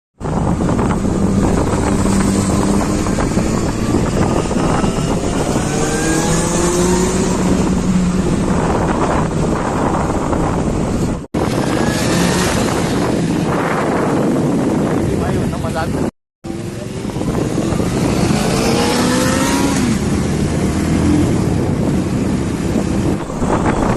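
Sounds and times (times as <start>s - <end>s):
motorcycle engine accelerating: 0.2s - 15.0s, 16.5s - 23.9s
wind noise on microphone: 0.2s - 23.9s.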